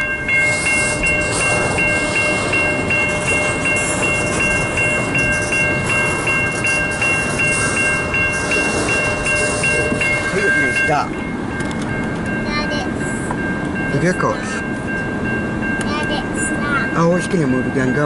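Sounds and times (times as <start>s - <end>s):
freight train cars rolling: 0.0s - 18.0s
railroad crossing bell ringing: 0.0s - 18.0s.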